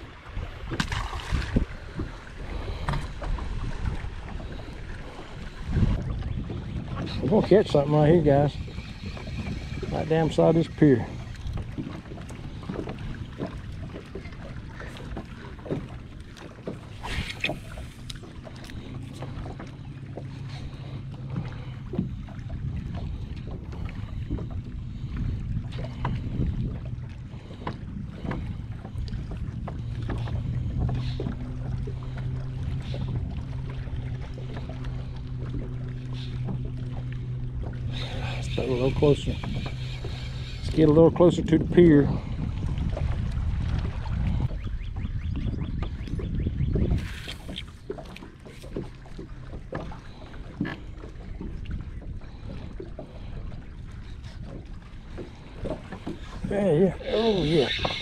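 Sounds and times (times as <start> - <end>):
water lapping against boat hull: 0.0 - 58.0
wind rumbling on microphone: 0.0 - 58.0.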